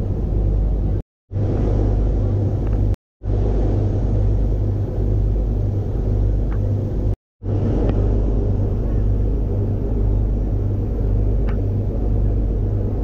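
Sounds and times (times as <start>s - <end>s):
ferry diesel engine drone: 0.0s - 13.0s.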